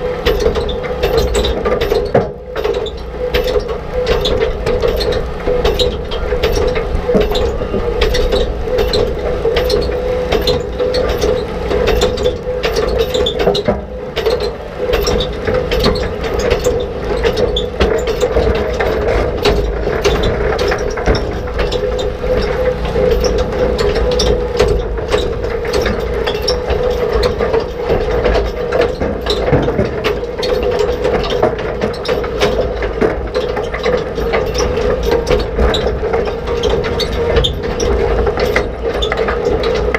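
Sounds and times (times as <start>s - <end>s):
mechanical drone: 0.0s - 39.9s
rock picker reel clattering: 0.0s - 39.9s.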